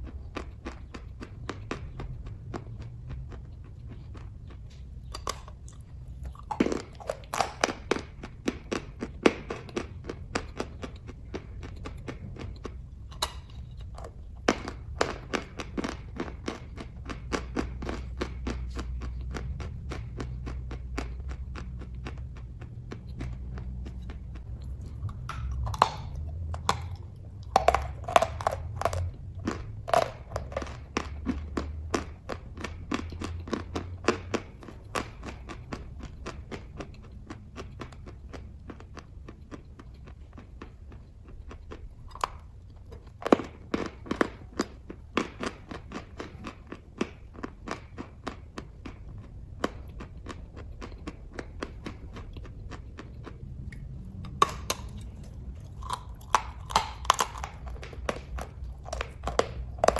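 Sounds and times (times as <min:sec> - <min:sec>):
mouth chewing wet clicks: 0:00.0 - 0:59.9
steady low hum: 0:00.0 - 0:59.9.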